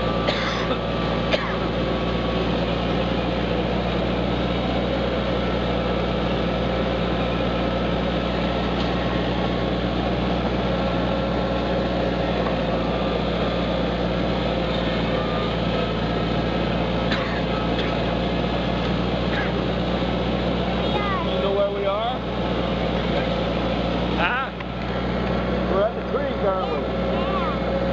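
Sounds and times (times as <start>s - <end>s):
tractor engine humming: 0.0s - 27.9s.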